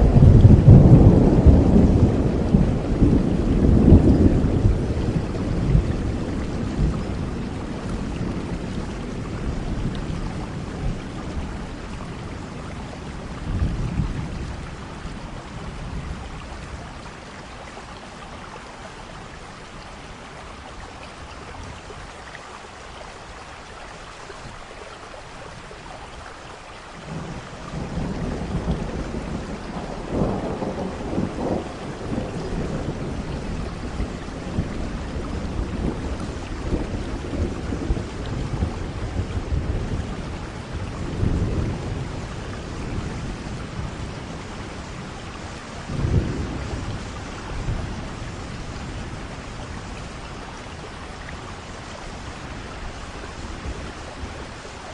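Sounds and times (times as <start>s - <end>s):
thunder rumbling: 0.0s - 17.2s, 27.0s - 54.9s
steady rain: 0.0s - 54.9s.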